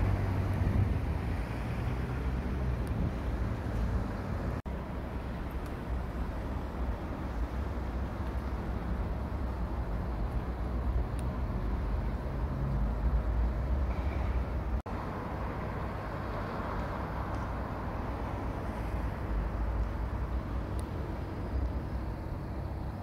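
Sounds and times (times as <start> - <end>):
low rumble of road vehicles: 0.0 - 23.0.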